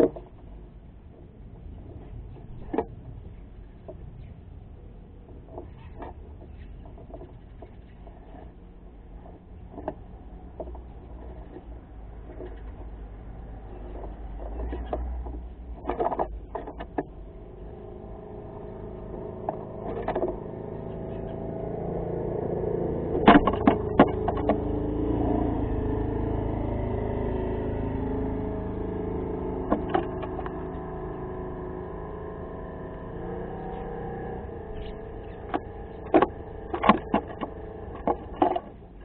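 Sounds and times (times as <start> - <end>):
engine-like hum: 0.0 - 39.0.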